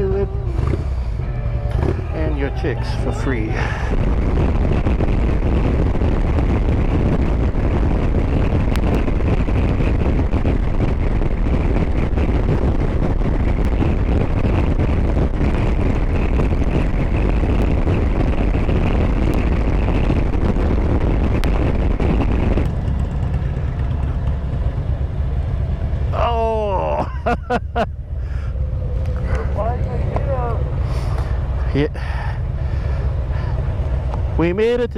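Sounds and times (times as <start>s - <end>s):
motorcycle engine and wind noise: 0.0s - 34.9s.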